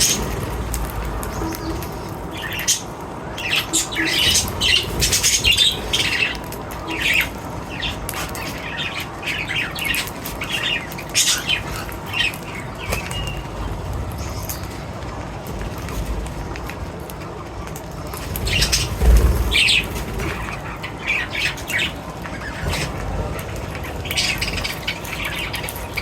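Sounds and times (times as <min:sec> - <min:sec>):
birds chirping and squawking: 0:00.0 - 0:26.0
wing flapping: 0:00.0 - 0:26.0.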